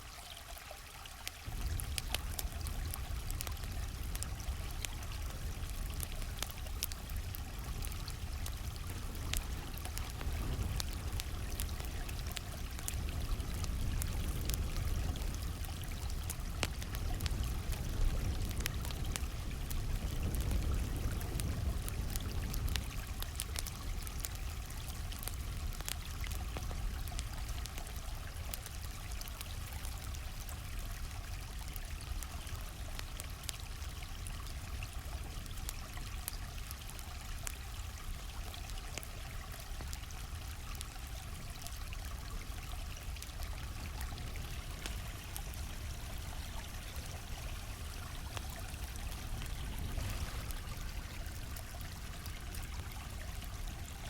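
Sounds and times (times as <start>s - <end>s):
stream flowing: 0.0s - 54.0s
campfire crackling and popping: 0.3s - 54.0s.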